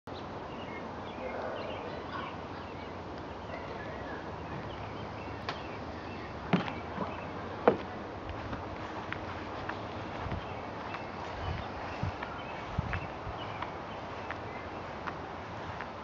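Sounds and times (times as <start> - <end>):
steady background hum: 0.1 - 16.0.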